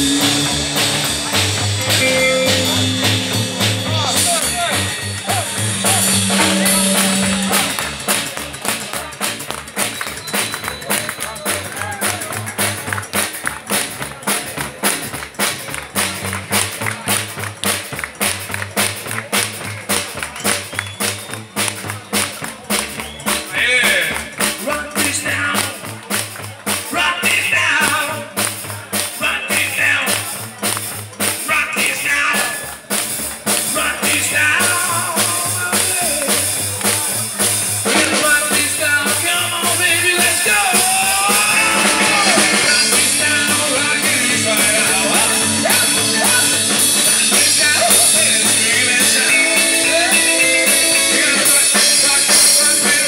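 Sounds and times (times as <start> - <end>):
background music with drum beat: 0.0 - 53.0.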